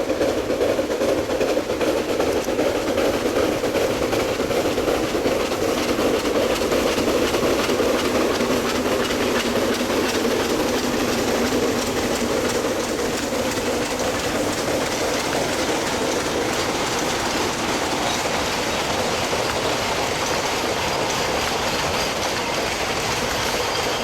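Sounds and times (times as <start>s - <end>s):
faint rail clicking: 0.0s - 24.0s
train wheels rumbling on rails: 0.0s - 24.0s.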